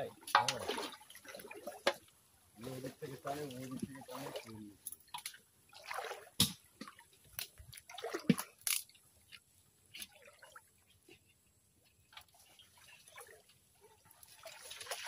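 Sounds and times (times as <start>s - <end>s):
muddy water splashing and dripping: 0.0s - 15.0s.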